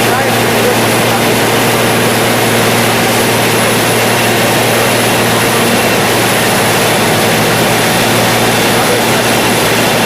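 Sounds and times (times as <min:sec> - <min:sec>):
engine hum: 0:00.0 - 0:10.0
loud broad machine noise: 0:00.0 - 0:10.0.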